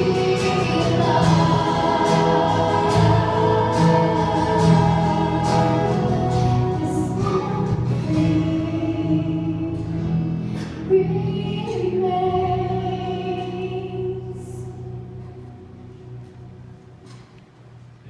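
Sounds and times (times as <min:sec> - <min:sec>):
gospel choir singing: 0:00.0 - 0:14.7
instrumental backing: 0:00.0 - 0:17.8.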